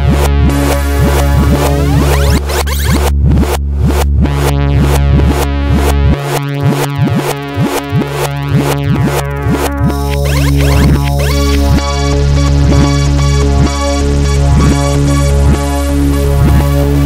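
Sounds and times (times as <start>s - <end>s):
electronic music with sliding synths: 0.0s - 17.0s.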